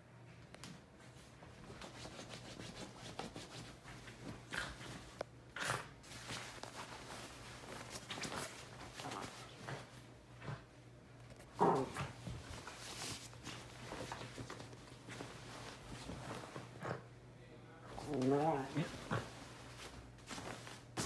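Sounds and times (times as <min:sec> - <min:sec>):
bedsheets rustling: 0:01.0 - 0:17.0, 0:17.9 - 0:21.0.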